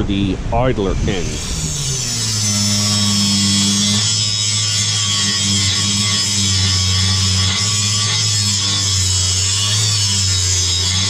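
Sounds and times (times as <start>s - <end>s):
angle grinder grinding steel: 0.8s - 11.0s.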